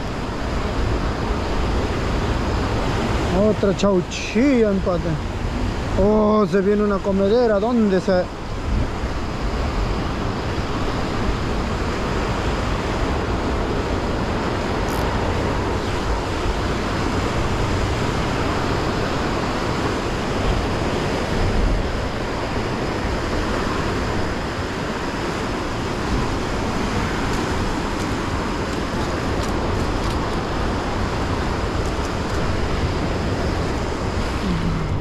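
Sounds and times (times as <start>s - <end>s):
surf breaking over rocks: 0.0s - 35.0s
wind on microphone: 0.0s - 35.0s.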